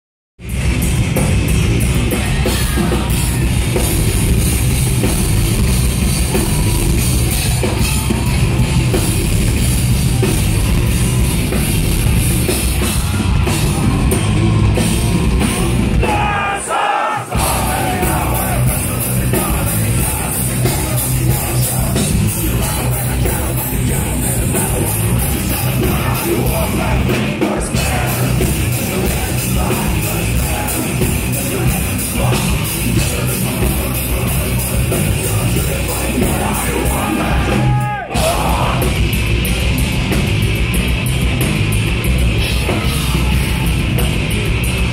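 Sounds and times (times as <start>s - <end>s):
heavy metal band playing live: 0.4s - 44.9s.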